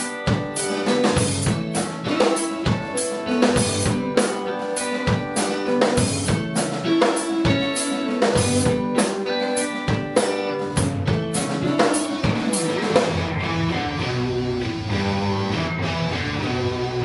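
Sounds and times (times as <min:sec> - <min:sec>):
bass: 0:00.0 - 0:17.0
drum kit: 0:00.0 - 0:17.0
electric guitars: 0:00.0 - 0:17.0
keyboard chords: 0:00.0 - 0:17.0.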